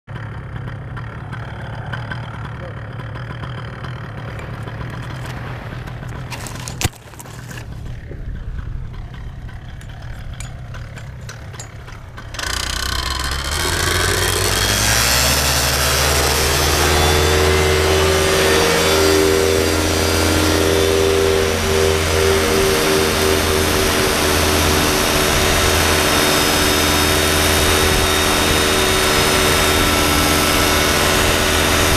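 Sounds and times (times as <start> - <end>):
paramotor engine and propeller: 0.1 - 31.9.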